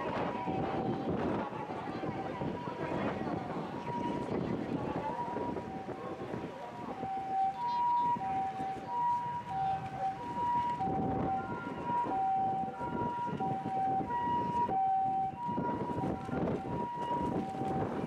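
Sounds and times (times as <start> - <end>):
two-tone ambulance siren: 0.0 - 18.0
wind and engine rumble: 0.0 - 18.0.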